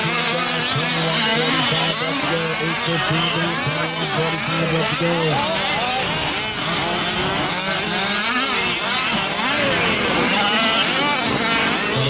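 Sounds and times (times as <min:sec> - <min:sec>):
two-stroke rc truck engines revving: 0:00.0 - 0:12.0.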